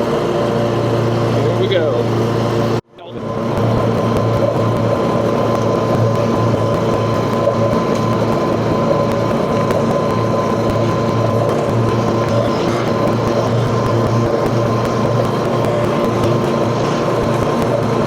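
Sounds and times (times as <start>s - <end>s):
mower engine hum: 0.0s - 18.0s
thin steady whine: 0.0s - 18.0s.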